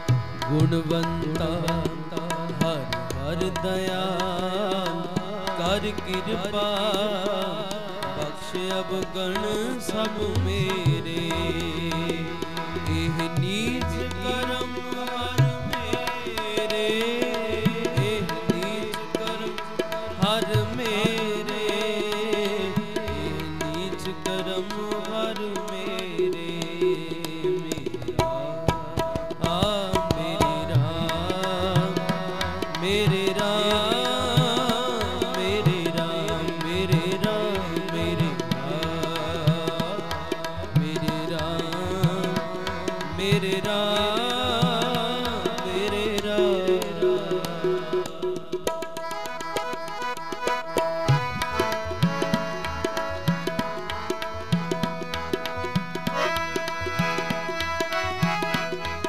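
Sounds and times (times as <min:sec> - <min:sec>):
harmonium melody: 0:00.0 - 0:59.0.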